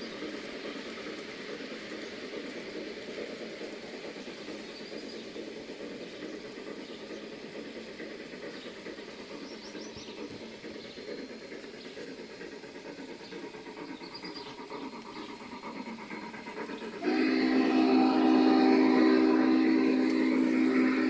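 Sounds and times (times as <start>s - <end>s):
model train rumbling: 0.0s - 21.0s.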